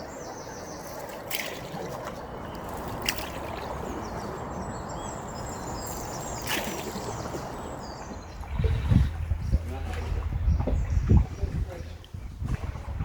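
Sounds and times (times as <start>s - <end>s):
paddle strokes in water: 0.0s - 13.0s
water splashing and trickling: 0.0s - 13.0s.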